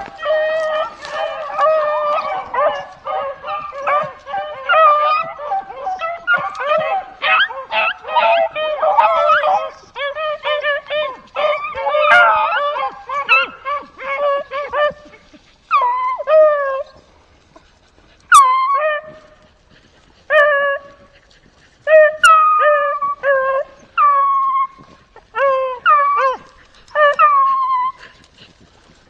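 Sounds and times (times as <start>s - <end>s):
beagles baying: 0.0s - 17.1s, 21.9s - 28.3s.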